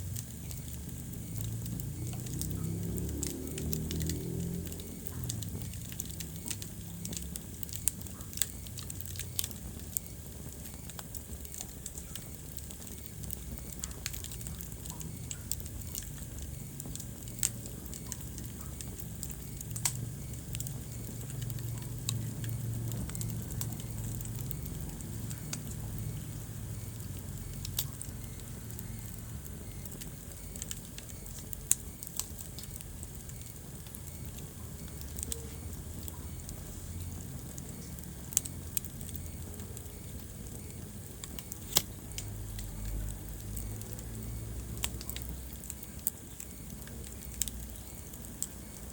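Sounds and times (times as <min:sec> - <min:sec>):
fire burning rumble: 0:00.0 - 0:48.9
fire crackling and popping: 0:00.0 - 0:48.9.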